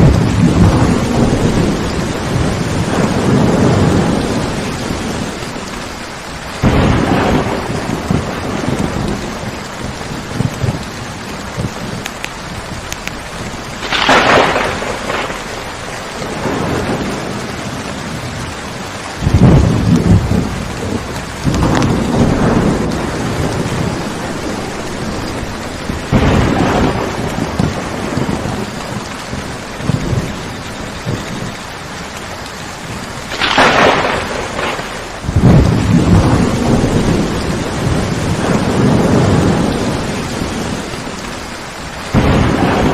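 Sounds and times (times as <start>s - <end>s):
sharp thunder cracks: 0.0s - 5.4s, 6.6s - 12.1s, 12.7s - 18.5s, 19.2s - 30.4s, 33.2s - 41.1s, 42.1s - 42.9s
heavy rain falling: 0.0s - 42.9s
thunder rumbling: 0.0s - 42.9s.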